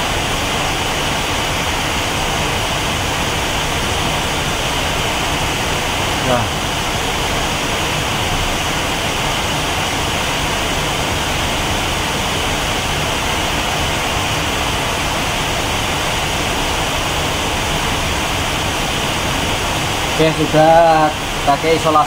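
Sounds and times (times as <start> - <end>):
steady roar of background noise: 0.0 - 22.0.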